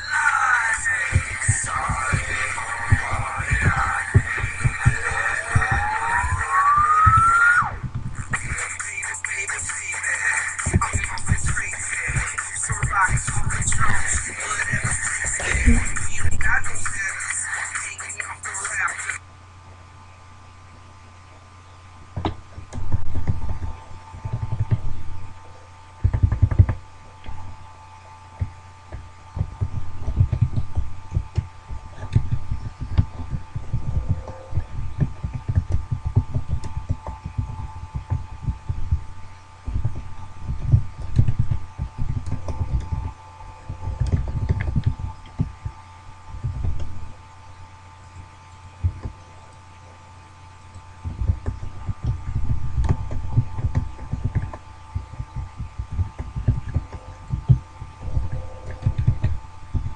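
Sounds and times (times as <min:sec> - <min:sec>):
muffled thumping and rumbling: 0:00.8 - 0:09.8, 0:10.5 - 0:17.4, 0:22.1 - 0:25.4, 0:26.0 - 0:27.5, 0:28.4 - 0:47.2, 0:48.8 - 0:49.2, 0:51.0 - 0:59.9.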